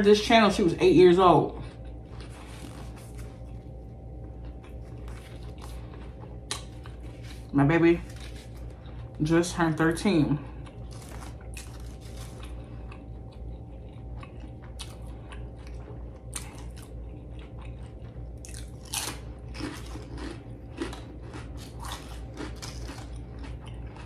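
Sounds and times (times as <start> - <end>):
steady low hum: 0.0 - 24.0
potato chips crunching: 1.1 - 24.0.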